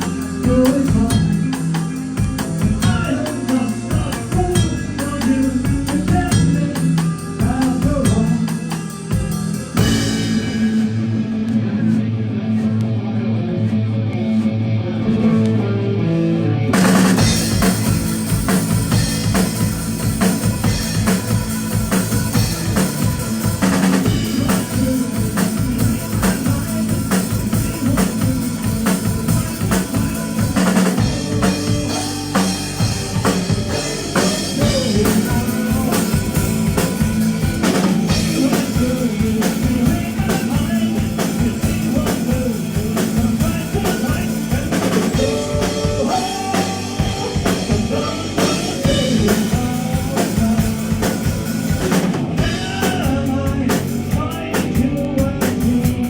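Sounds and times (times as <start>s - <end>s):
drum kit: 0.0s - 12.0s, 16.7s - 56.0s
electric guitar: 0.0s - 56.0s.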